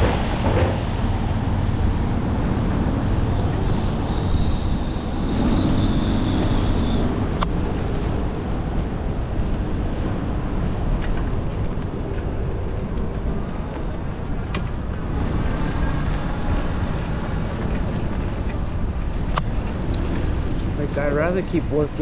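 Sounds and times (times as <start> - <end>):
city traffic: 0.0 - 22.0
wind rumbling on microphone: 0.0 - 22.0.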